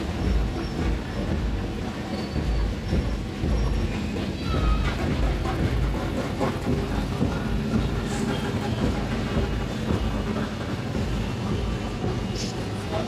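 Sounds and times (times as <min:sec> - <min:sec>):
crowd rumble: 0:00.0 - 0:13.0.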